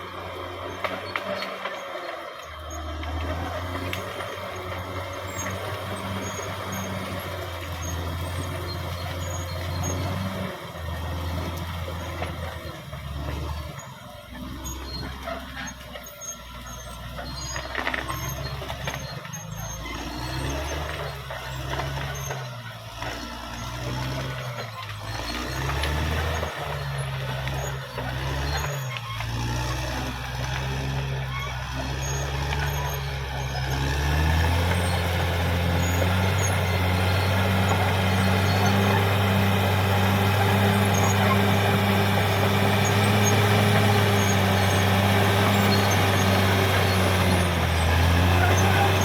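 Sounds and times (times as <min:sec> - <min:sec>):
bulldozer diesel engine: 0:00.0 - 0:49.0.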